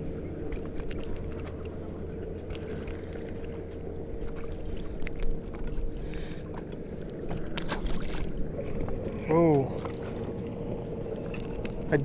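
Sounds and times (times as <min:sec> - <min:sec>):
faint constant tone: 0:00.0 - 0:12.0
steady low hum: 0:00.0 - 0:12.0.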